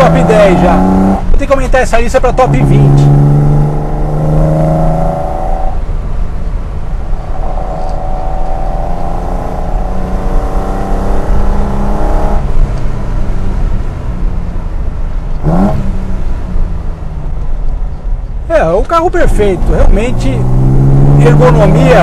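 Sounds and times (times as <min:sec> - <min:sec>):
car engine accelerating: 0:00.0 - 0:01.5, 0:02.2 - 0:18.3, 0:19.2 - 0:22.0.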